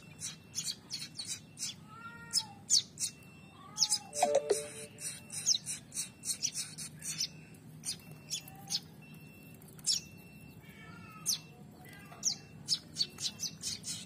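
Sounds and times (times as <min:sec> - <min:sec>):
fledgling birds chirping: 0:00.0 - 0:10.2, 0:11.2 - 0:14.0.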